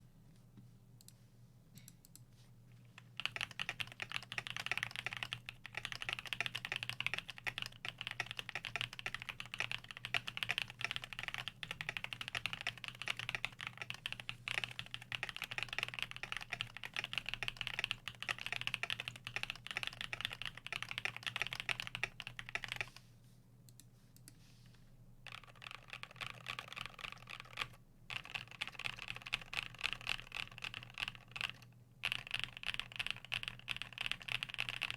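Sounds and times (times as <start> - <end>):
fast mechanical keyboard typing: 3.0 - 22.9, 25.3 - 34.9.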